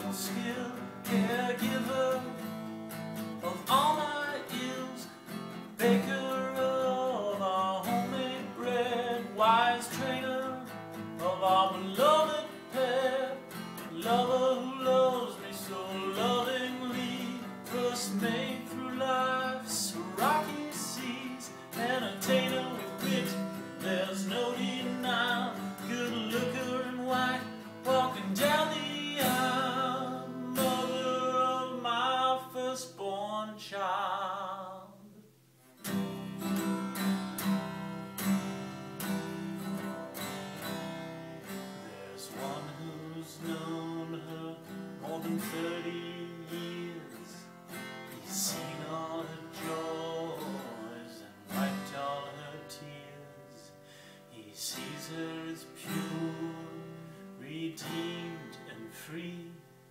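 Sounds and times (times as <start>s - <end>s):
man singing: 0.0s - 35.2s, 41.7s - 59.9s
acoustic guitar strumming: 0.0s - 59.9s.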